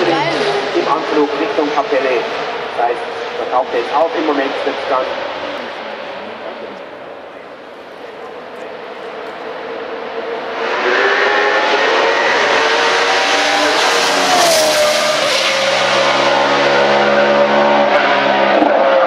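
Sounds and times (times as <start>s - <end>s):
race car engine passing by: 0.0s - 19.0s.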